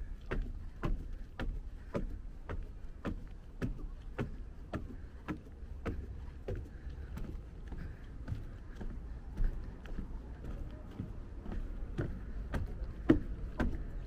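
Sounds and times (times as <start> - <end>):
footsteps on wooden stairs: 0.0 - 14.0.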